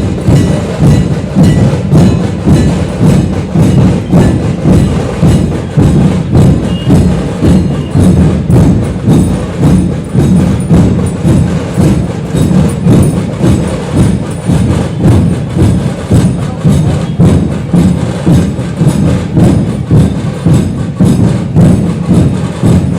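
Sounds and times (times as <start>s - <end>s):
drums in driving rhythm: 0.0s - 22.9s.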